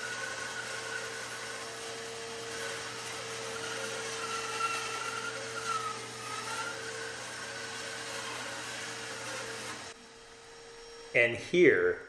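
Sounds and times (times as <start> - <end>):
bandsaw cutting wood: 0.0 - 11.1.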